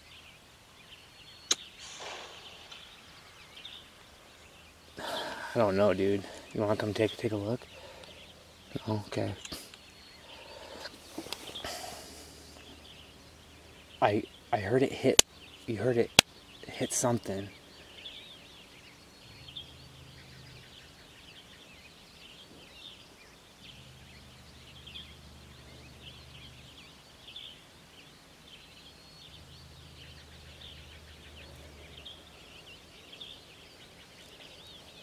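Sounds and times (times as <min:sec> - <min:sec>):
birds chirping and trilling: 0:00.0 - 0:35.0
faint low hum: 0:00.0 - 0:35.0.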